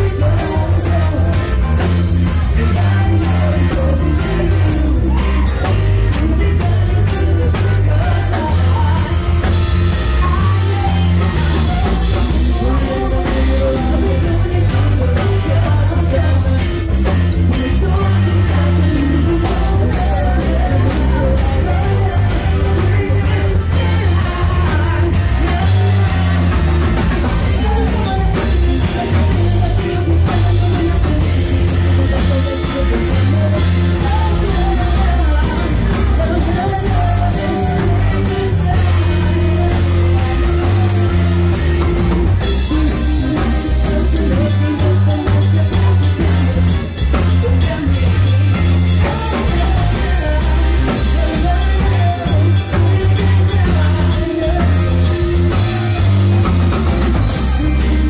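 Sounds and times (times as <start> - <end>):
drum kit: 0.0 - 58.0
electric bass: 0.0 - 58.0
keyboards: 0.0 - 58.0
person singing: 0.0 - 58.0.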